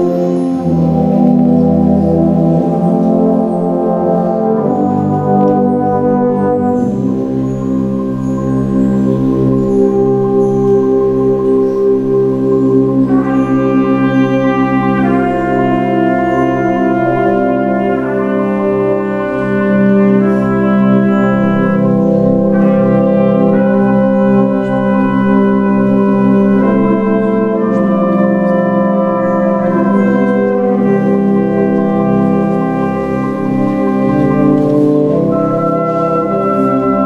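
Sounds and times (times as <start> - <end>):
brass band playing slow chords: 0.0 - 37.0.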